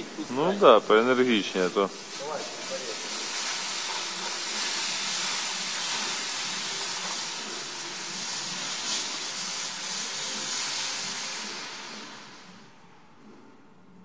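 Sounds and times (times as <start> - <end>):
compressed air hissing: 0.0 - 13.3.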